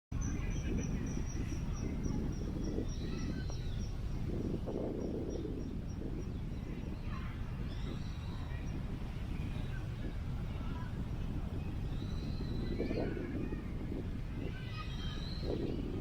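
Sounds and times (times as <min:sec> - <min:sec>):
wind buffeting microphone: 0:00.1 - 0:16.0.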